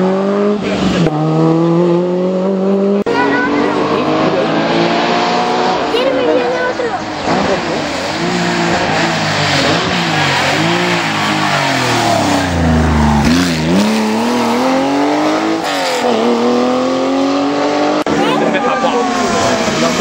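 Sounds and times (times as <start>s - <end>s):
rally car engine revving past: 0.0s - 5.9s, 7.1s - 20.0s.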